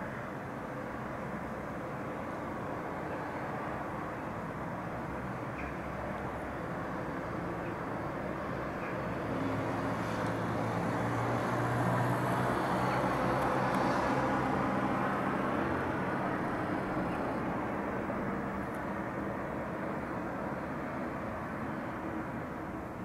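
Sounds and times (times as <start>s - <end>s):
traffic hum: 0.0s - 23.0s.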